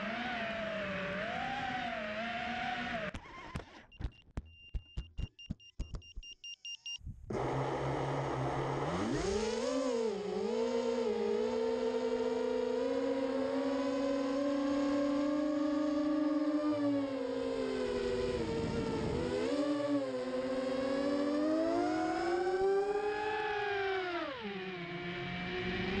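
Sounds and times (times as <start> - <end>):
drone motors whining: 0.0 - 4.0, 7.3 - 26.0.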